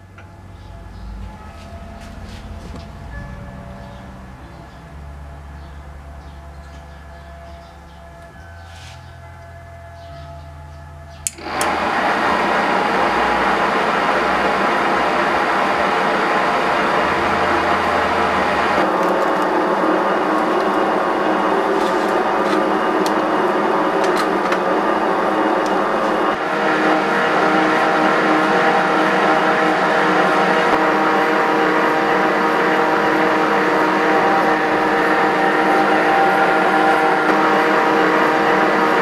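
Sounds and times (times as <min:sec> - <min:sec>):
lathe motor whirring: 0:00.0 - 0:39.0.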